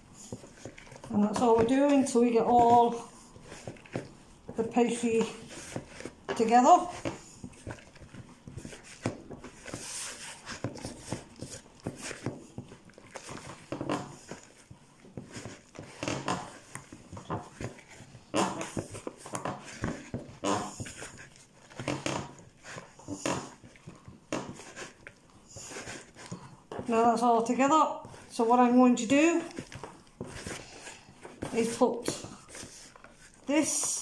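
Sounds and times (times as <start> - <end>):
hands kneading dough: 0.0 - 34.0.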